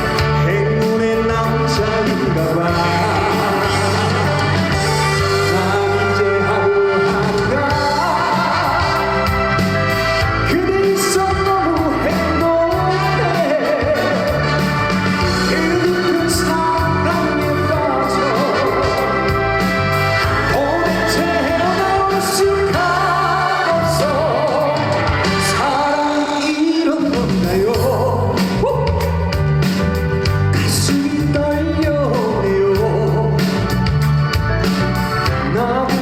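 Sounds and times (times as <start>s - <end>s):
man singing: 0.0s - 34.4s, 35.2s - 36.0s
band backing track with beat: 0.0s - 36.0s.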